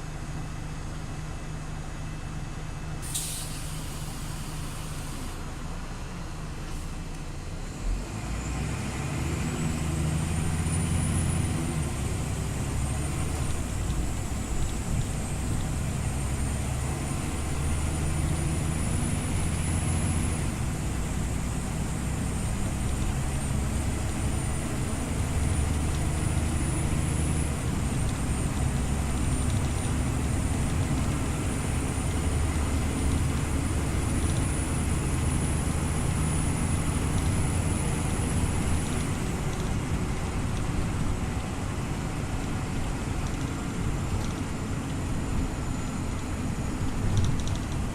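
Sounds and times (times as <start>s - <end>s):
bus engine rumbling: 0.0s - 47.9s.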